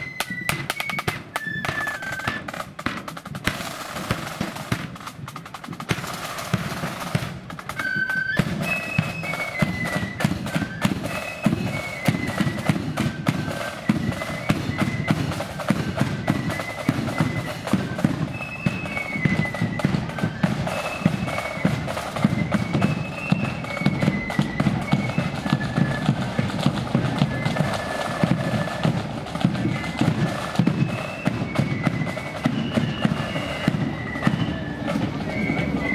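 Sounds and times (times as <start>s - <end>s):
flutes playing melody: 0.0s - 35.9s
rapid snare drumming: 0.0s - 35.9s.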